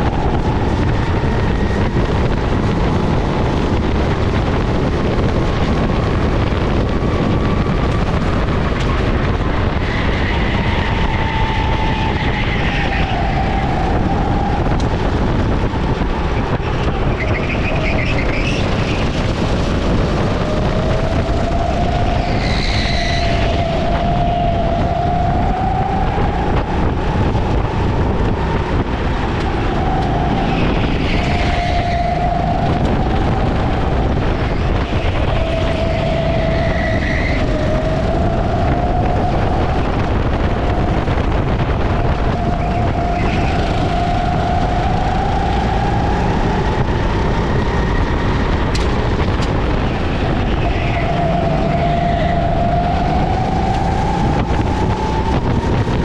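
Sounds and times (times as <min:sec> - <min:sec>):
kart engine revving: 0:00.0 - 0:56.0
low rumble of wind: 0:00.0 - 0:56.0.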